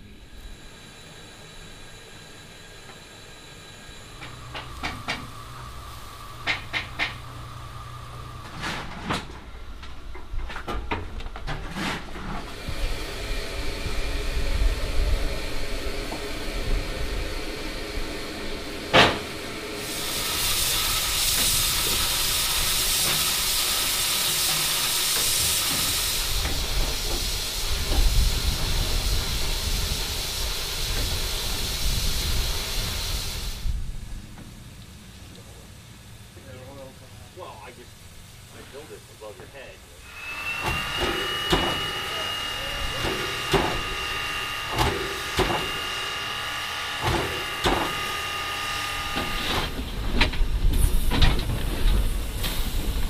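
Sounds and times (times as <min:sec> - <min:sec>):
steam hissing from locomotive: 0:00.0 - 0:10.1, 0:11.7 - 0:53.0.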